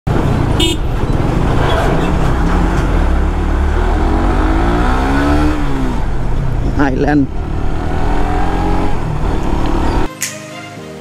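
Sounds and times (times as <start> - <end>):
motorcycle engine revving: 0.1 - 10.1
wind rumble: 0.1 - 10.1.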